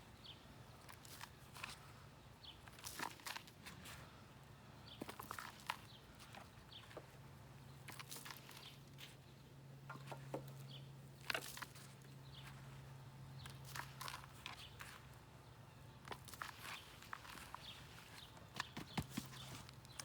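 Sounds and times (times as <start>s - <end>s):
low steady hum: 0.0s - 20.0s
soil scraping in flower pots: 0.8s - 20.0s.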